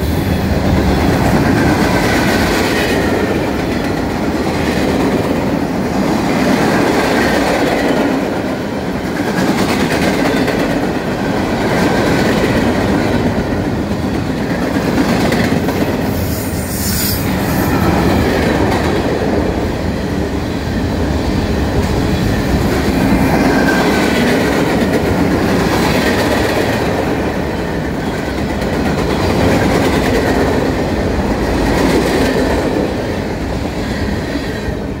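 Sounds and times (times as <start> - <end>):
clickety-clack over rail joints: 0.0 - 16.1, 21.4 - 35.0
train wheels rumbling on rails: 0.0 - 35.0.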